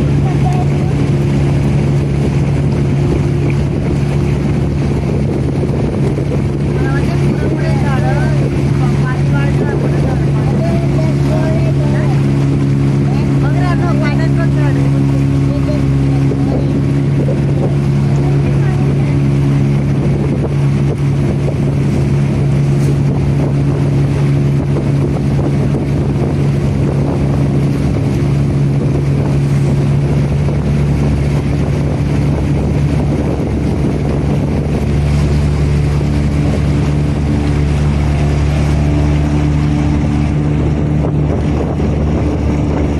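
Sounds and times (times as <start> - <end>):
motorboat engine droning: 0.0 - 42.9
wind noise: 0.0 - 42.9.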